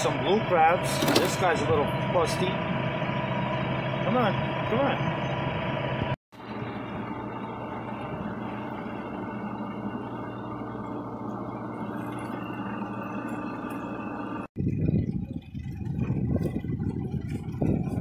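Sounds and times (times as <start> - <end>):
outboard motor hum: 0.0 - 18.0.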